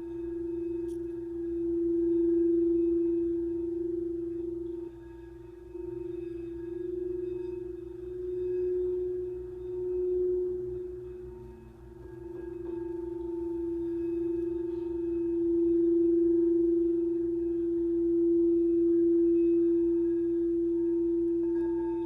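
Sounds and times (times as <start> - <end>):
crystal singing bowl ringing: 0.0 - 22.0.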